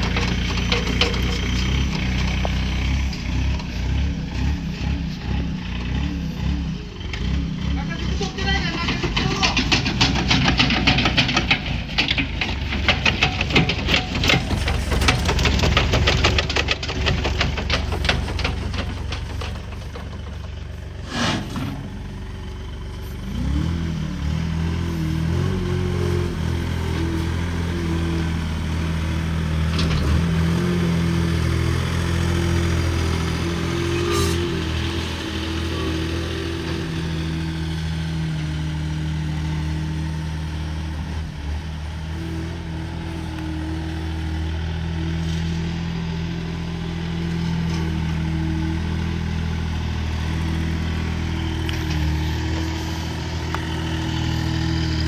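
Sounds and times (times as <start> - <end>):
diesel engine of wheel loader: 0.0 - 55.0.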